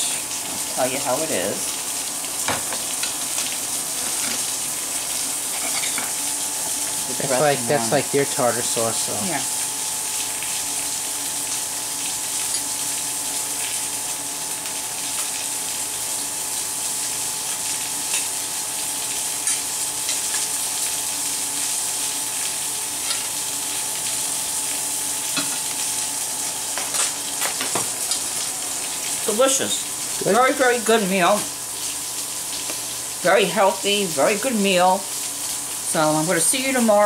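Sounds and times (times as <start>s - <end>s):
fish sizzling in hot oil: 0.0s - 37.0s.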